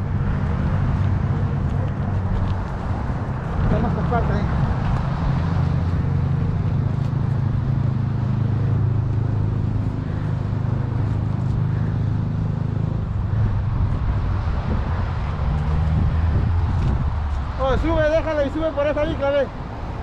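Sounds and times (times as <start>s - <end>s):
low hum with rumble: 0.0s - 19.0s.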